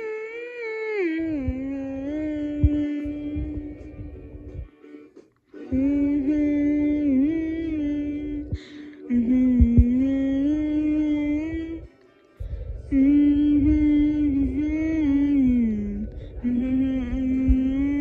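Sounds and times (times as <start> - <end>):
woman humming a melody: 0.0 - 4.6, 5.7 - 11.9, 12.7 - 18.0.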